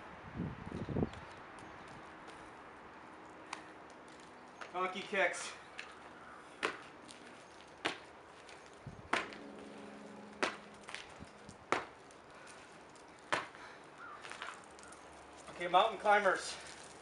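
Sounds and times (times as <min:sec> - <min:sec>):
sneakers slapping asphalt: 0:00.8 - 0:17.0.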